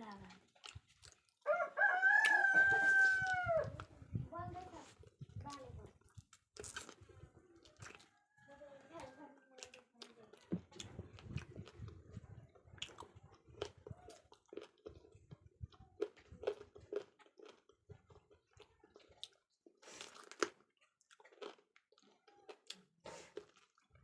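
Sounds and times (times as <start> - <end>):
chewing with wet smacks: 0.0 - 1.6, 5.0 - 24.0.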